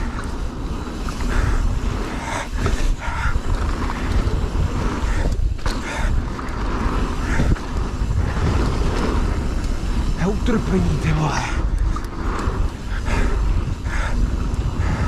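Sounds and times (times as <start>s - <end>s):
mountain bike rattling and knocking: 0.0s - 15.0s
wind rushing over microphone: 0.0s - 15.0s.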